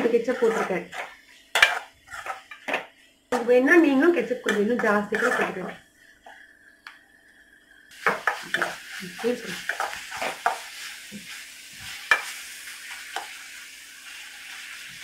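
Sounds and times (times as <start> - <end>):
metal spatula scraping a pan: 0.0 - 6.4, 8.0 - 15.0
paste sizzling in a pan: 0.0 - 15.0.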